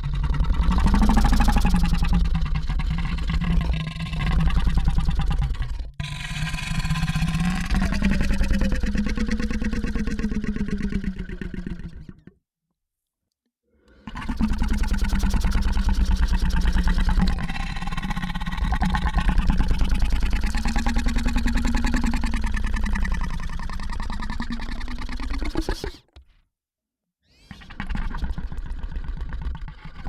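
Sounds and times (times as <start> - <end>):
creature call: 0.0 - 12.2, 14.0 - 26.1
rattling creature growl: 0.0 - 12.4, 13.9 - 26.1.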